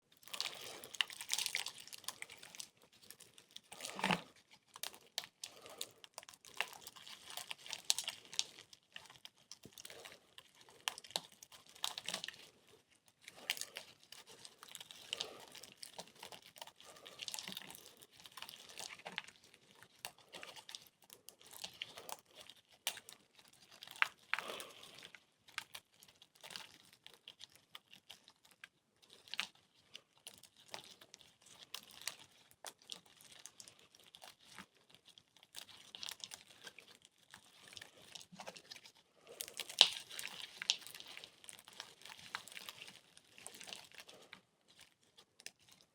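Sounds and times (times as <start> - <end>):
chalk crunching and crackling: 0.3 - 25.2, 29.1 - 45.9.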